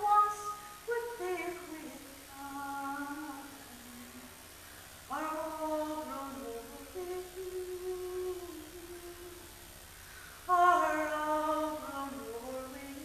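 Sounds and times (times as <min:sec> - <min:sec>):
woman singing unaccompanied: 0:00.0 - 0:04.5, 0:05.1 - 0:09.7, 0:10.5 - 0:13.0.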